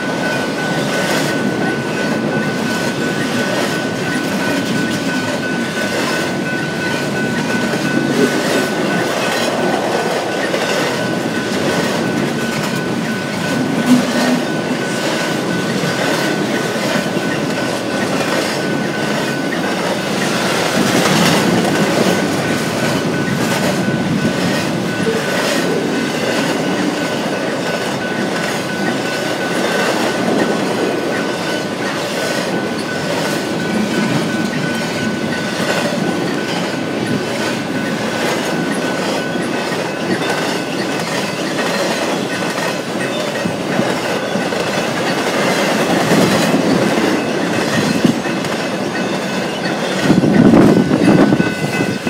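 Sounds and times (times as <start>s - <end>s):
clickety-clack of wheels: 0.0s - 52.0s
train wheels rumbling on rail: 0.0s - 52.0s.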